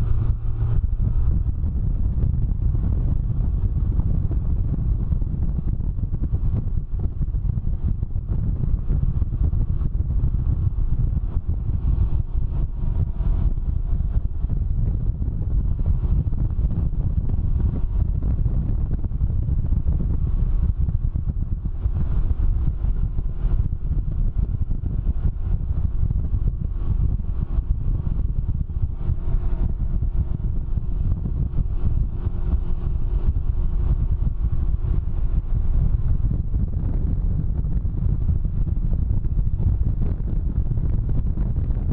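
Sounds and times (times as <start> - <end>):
engine drone: 0.0 - 41.9
wind buffeting microphone: 0.0 - 41.9.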